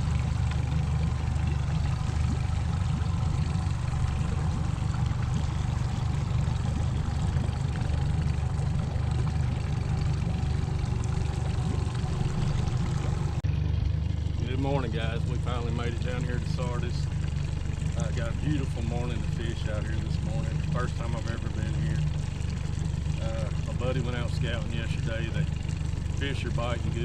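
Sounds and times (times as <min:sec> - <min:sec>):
motorboat engine rumbling: 0:00.0 - 0:27.0
water noise: 0:00.0 - 0:27.0.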